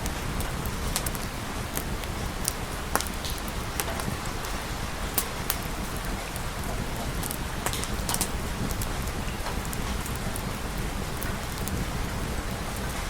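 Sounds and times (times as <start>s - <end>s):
sharp crackling pops: 0.0s - 13.0s
steady rain: 0.0s - 13.0s.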